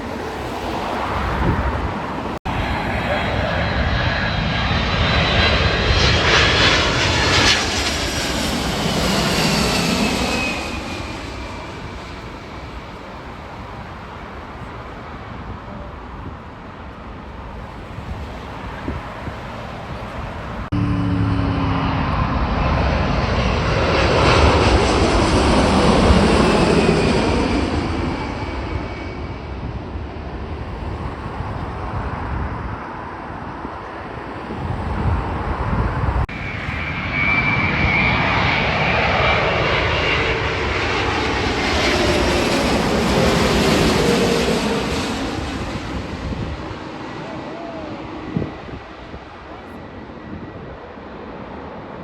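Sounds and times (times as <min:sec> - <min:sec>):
high jet engine whine: 0:00.0 - 0:52.0
jet airliner passing: 0:00.0 - 0:52.0.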